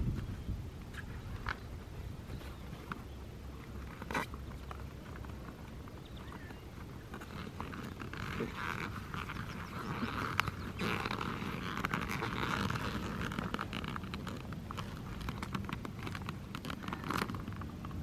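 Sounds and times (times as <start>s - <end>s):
gear rustling in fabric bags: 1.0s - 18.0s.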